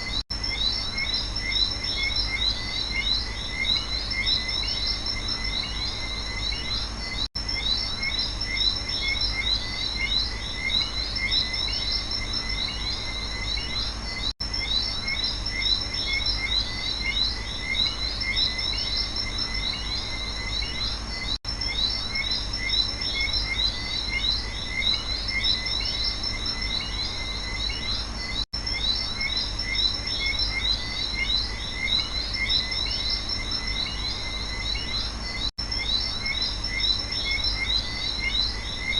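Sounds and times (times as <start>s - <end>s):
frogs and insects chirping: 0.0s - 38.9s.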